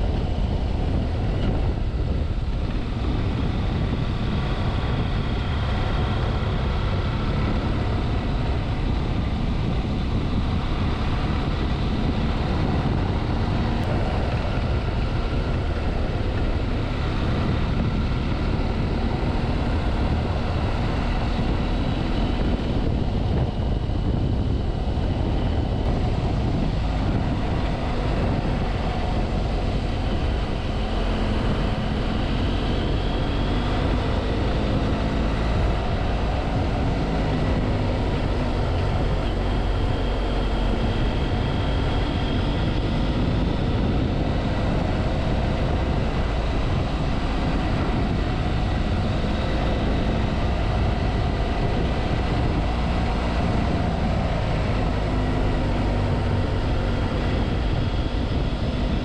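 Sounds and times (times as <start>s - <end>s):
motorcycle engine running: 0.0s - 59.0s
wind rushing: 0.0s - 59.0s.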